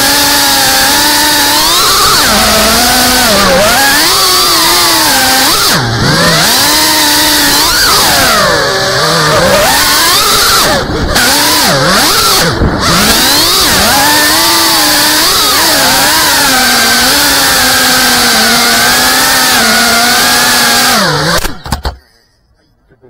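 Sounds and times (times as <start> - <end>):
quadcopter motors buzzing: 0.0 - 21.9.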